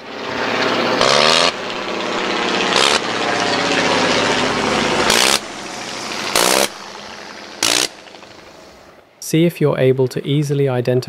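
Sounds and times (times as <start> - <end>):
rotary aircraft engine blipping: 0.0 - 9.2.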